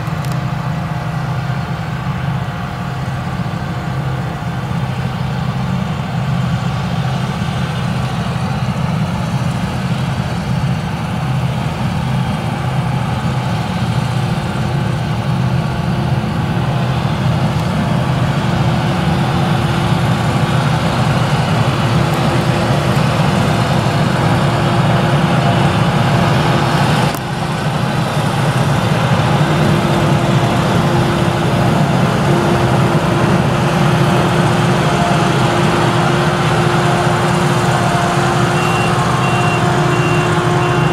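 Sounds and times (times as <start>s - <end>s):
diesel engine drone under load: 0.0s - 40.9s.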